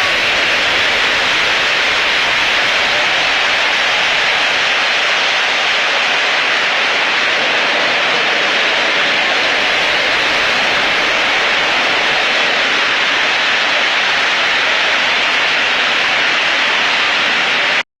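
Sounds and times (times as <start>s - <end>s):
heavy rain pouring: 0.0s - 17.8s.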